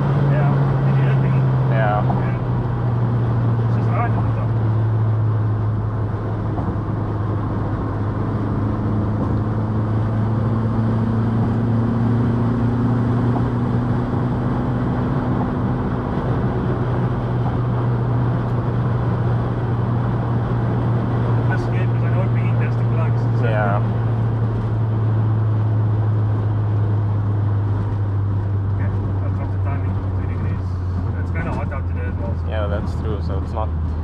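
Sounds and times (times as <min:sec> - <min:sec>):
car engine drone: 0:00.0 - 0:34.0
road noise: 0:00.0 - 0:34.0.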